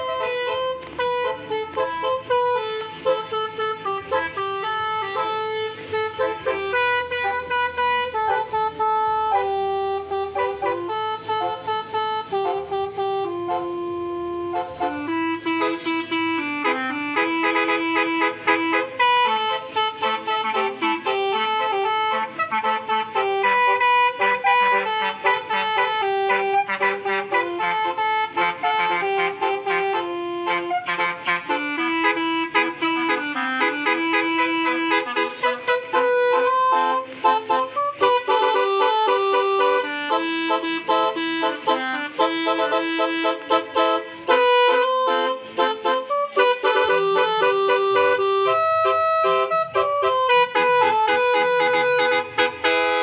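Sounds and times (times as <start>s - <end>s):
musical air horn playing tune: 0.0s - 53.0s.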